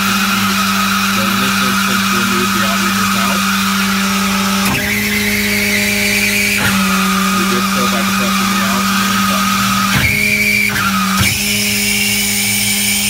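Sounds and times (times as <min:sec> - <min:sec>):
hydraulic system hum and whine: 0:00.0 - 0:13.0.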